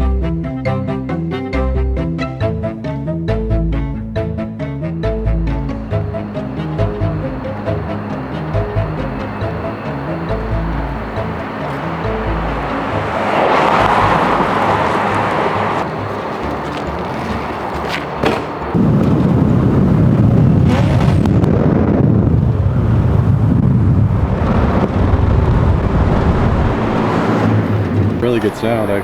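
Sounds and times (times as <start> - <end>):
car engine with deep rough exhaust: 5.0 - 29.0
engine and traffic noise: 5.0 - 29.0.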